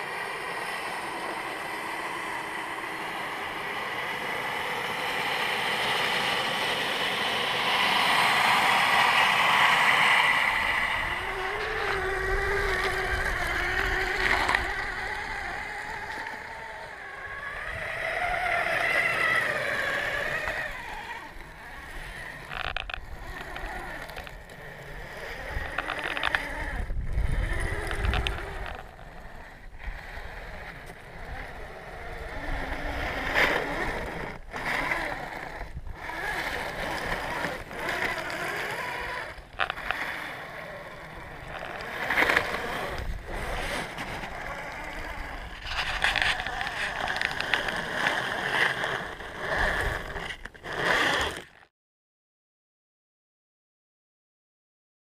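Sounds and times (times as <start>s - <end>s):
electric motors whining: 0.0s - 51.7s.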